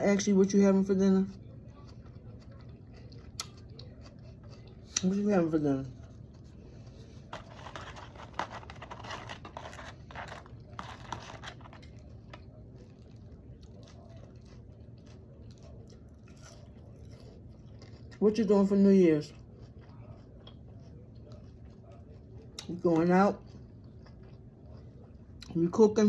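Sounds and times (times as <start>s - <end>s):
crunchy chewing: 1.3s - 25.6s.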